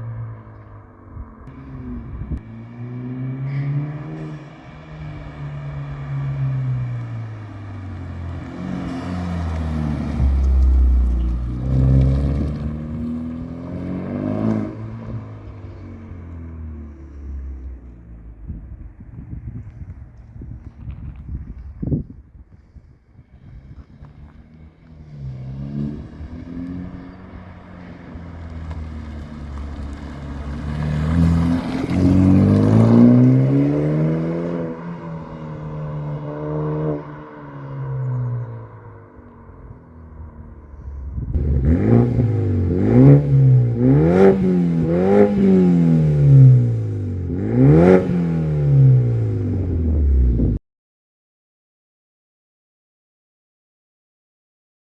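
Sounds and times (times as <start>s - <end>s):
car exhaust accelerating: 0.0s - 21.9s, 22.6s - 50.6s.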